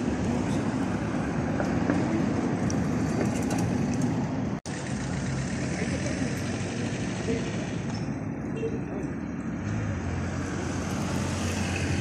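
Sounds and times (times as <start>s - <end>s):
street market low rumble: 0.0s - 12.0s.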